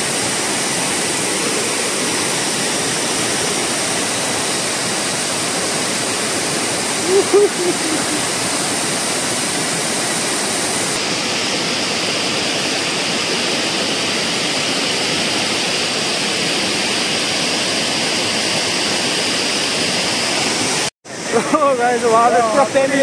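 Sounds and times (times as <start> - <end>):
fast-flowing stream rushing: 0.0 - 23.0.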